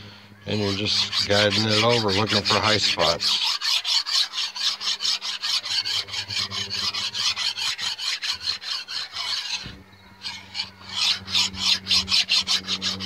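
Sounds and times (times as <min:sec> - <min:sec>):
file rasping on metal: 0:00.5 - 0:13.0.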